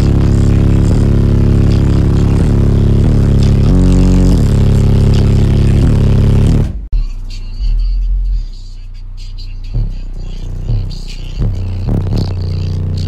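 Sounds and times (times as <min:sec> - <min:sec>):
loud subwoofer bass line: 0:00.0 - 0:13.0.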